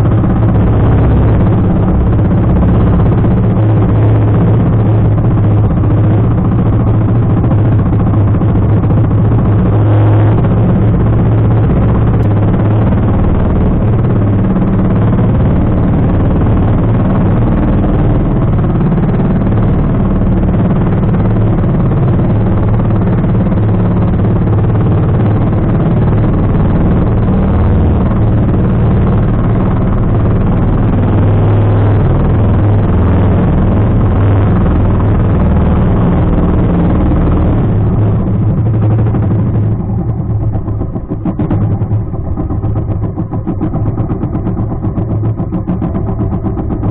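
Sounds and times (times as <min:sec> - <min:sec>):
boat engine running: 0:00.0 - 0:46.9
water noise: 0:00.0 - 0:46.9
wind: 0:00.0 - 0:46.9.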